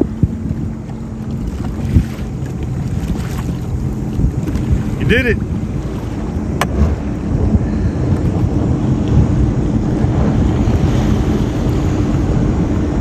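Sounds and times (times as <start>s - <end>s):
jet ski engine running: 0.0s - 13.0s
wind on microphone: 0.0s - 13.0s.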